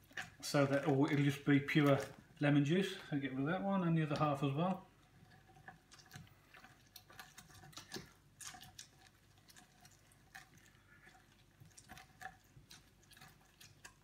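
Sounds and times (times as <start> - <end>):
lemon squelching on juicer: 0.0 - 14.0.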